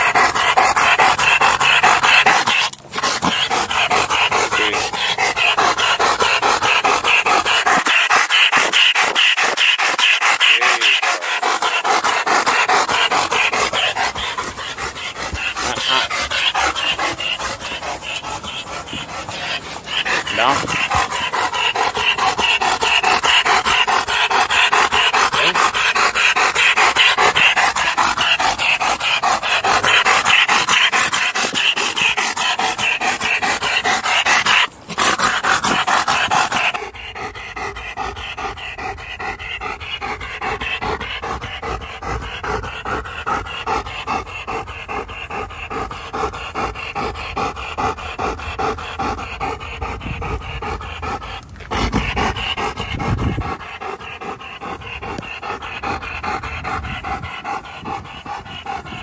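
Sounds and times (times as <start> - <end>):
dog panting: 0.0 - 59.0.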